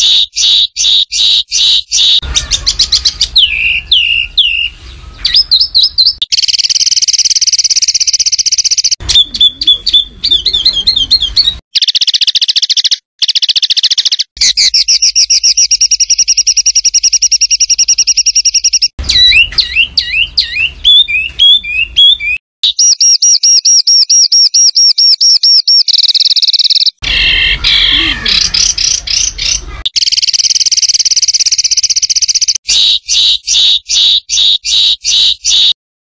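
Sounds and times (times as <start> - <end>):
songbird calls and trills: 0.0 - 35.8.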